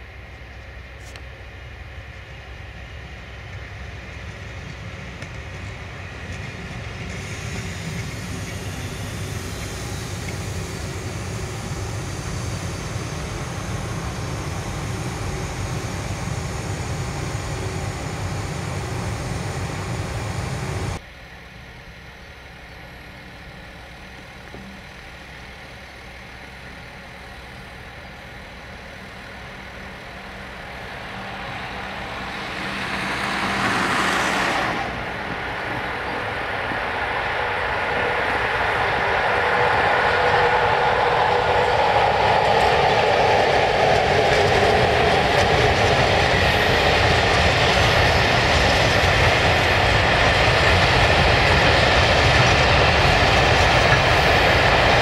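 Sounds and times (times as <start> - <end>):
train wheels rumbling: 0.0 - 21.0, 27.3 - 55.0
steady hum: 6.8 - 55.0.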